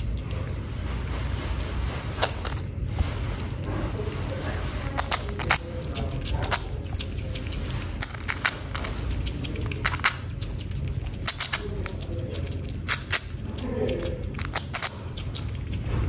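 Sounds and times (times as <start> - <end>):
squirrel crunching cracker: 0.0 - 16.0
steady low hum: 0.0 - 16.0.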